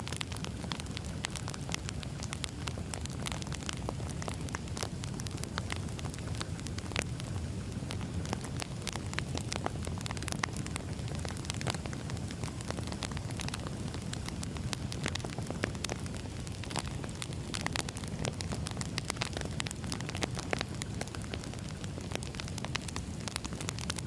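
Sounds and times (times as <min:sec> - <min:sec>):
burning wood crackling and popping: 0:00.0 - 0:24.0.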